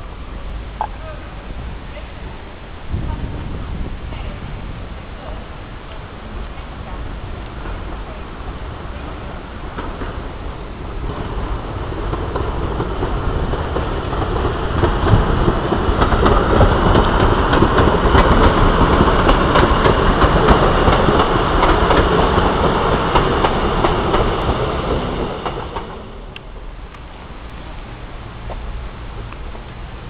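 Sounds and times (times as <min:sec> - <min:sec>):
train running past: 0:00.0 - 0:30.0
wheels clicking over rail joints: 0:02.9 - 0:30.0.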